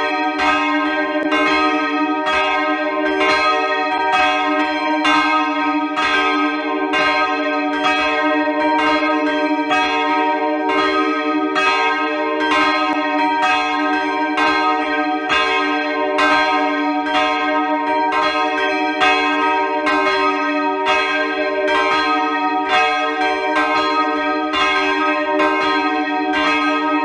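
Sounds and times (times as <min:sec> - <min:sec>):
church bells pealing: 0:00.0 - 0:27.0.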